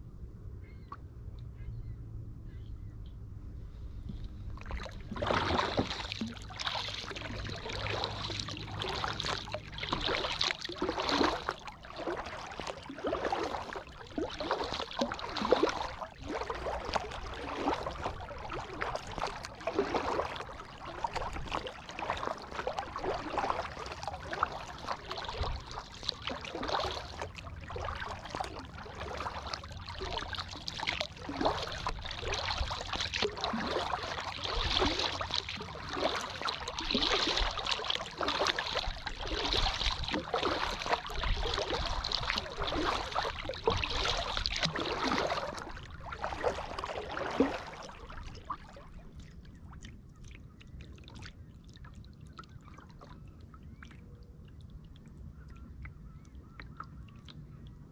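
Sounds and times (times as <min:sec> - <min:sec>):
paddle splashing and dripping: 0:04.0 - 0:57.8.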